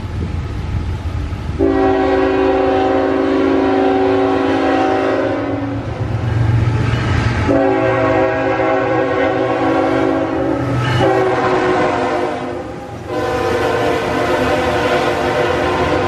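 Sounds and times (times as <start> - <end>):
train rumbling: 0.0 - 16.0
locomotive air horn blasts: 1.6 - 16.0.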